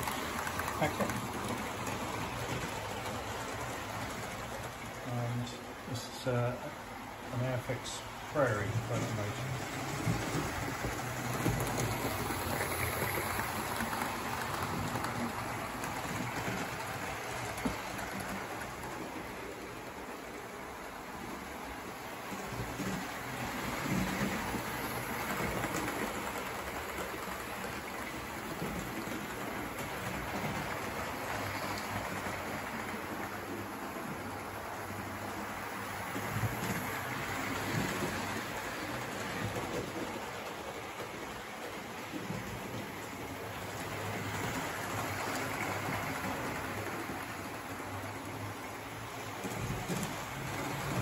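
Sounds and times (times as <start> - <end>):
model trains rumbling on track: 0.0 - 51.0.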